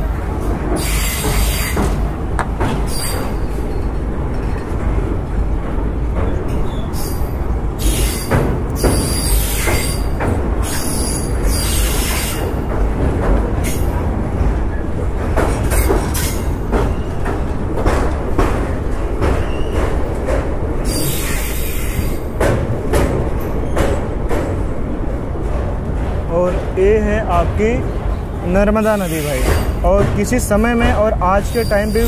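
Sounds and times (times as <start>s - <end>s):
train coach rumbling: 0.0s - 32.0s.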